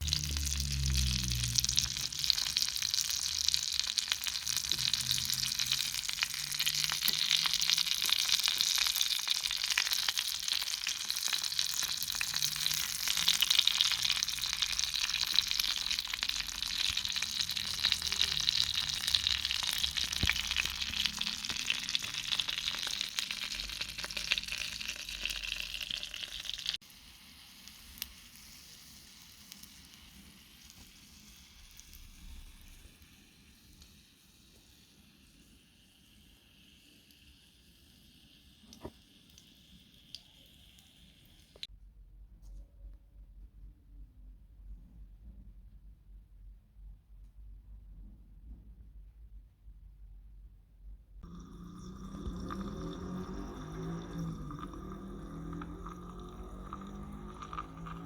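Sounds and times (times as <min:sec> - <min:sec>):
food sizzling in hot oil: 0:00.0 - 0:41.7, 0:51.2 - 0:58.0.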